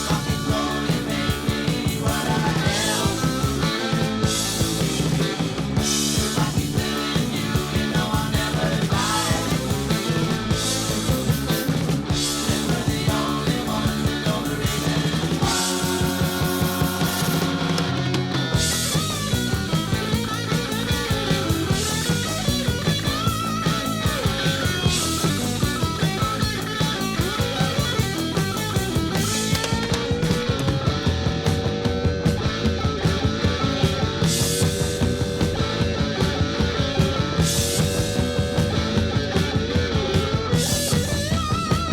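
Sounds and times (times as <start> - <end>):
bass guitar: 0.0 - 41.9
drums with cymbals: 0.0 - 41.9
electric guitar bending pitch: 0.0 - 41.9.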